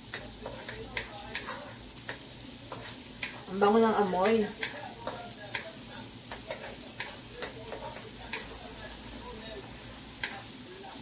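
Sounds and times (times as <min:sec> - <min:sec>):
spatula knocking against pan: 0:00.0 - 0:08.7, 0:10.2 - 0:10.4
garlic sizzling in butter: 0:00.0 - 0:11.0.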